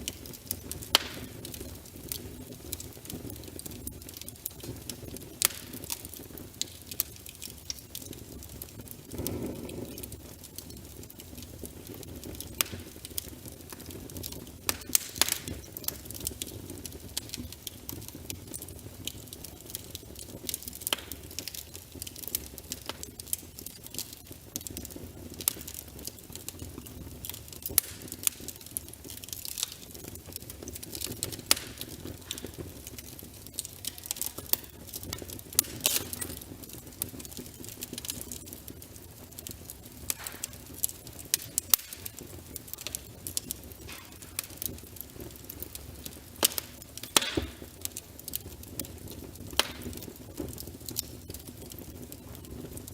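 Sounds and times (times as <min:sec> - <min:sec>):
logs crackling and popping: 0:00.0 - 0:52.9
low rumble of flames: 0:00.0 - 0:52.9.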